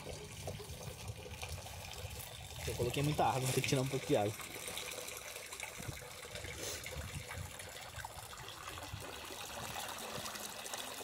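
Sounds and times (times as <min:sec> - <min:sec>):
water pouring into a pond: 0:00.0 - 0:11.0.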